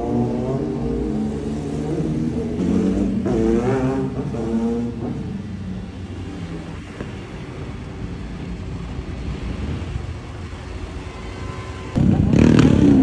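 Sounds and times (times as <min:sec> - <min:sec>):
engine drone with road noise: 0:00.0 - 0:13.0
motorcycle engines revving: 0:00.0 - 0:13.0.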